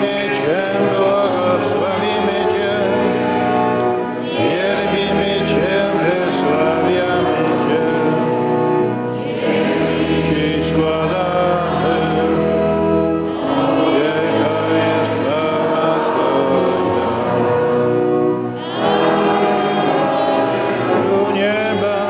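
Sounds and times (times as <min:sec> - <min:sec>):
group singing a chant: 0:00.0 - 0:22.0
sustained organ tones: 0:00.0 - 0:22.0.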